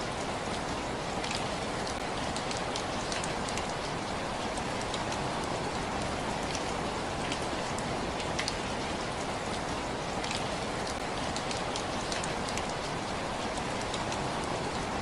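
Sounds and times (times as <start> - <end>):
raindrops ticking on a surface: 0.0 - 15.0
steady rain hiss: 0.0 - 15.0.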